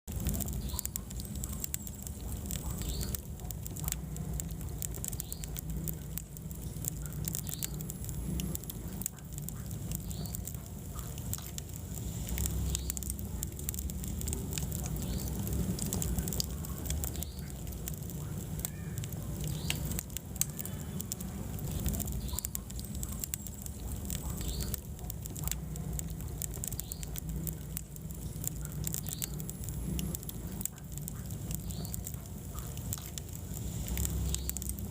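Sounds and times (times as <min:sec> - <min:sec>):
fire popping and snapping: 0:00.0 - 0:34.9
wood fire crackling: 0:00.0 - 0:34.9
low steady rumble: 0:00.1 - 0:34.9.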